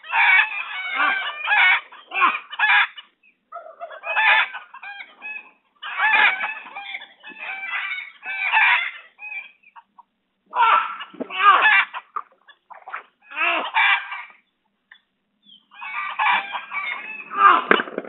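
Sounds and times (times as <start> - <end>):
chicken clucking and crowing: 0.0 - 14.5, 15.6 - 18.0.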